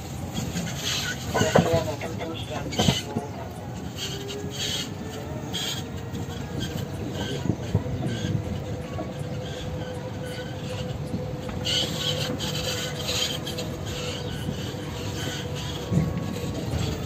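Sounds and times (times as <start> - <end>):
constant whine: 0.0 - 17.0
vehicle rolling rumble: 0.0 - 17.0
squeaks and rattles: 0.3 - 17.0.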